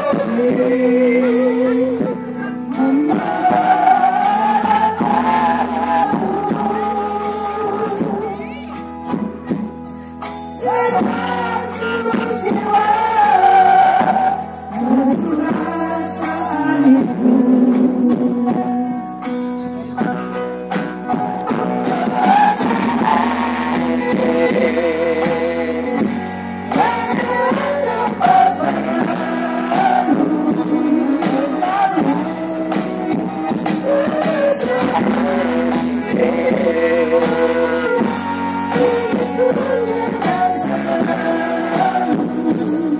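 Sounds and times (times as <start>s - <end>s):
women singing through a pa: 0.0s - 8.7s, 10.6s - 18.9s, 21.8s - 42.9s
backing music: 0.0s - 42.9s.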